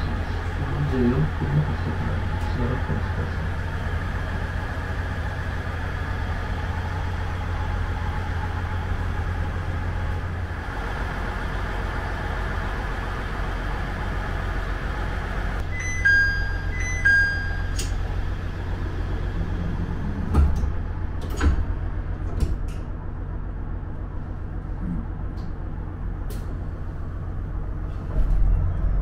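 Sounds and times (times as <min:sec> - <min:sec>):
diesel railcar engine idling: 0:00.0 - 0:29.0.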